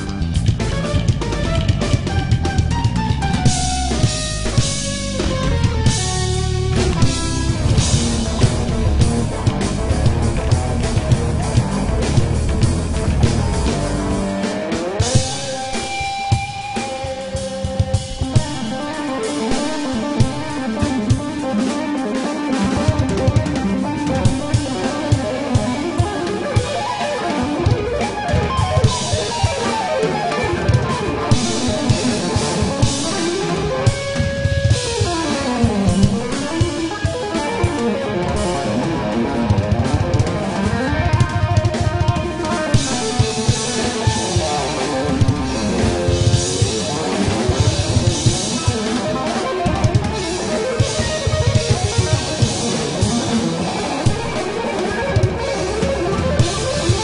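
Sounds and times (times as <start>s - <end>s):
drum kit groove: 0.0s - 57.0s
electric guitar solo: 0.0s - 57.0s
jazz fusion band playing: 0.0s - 57.0s.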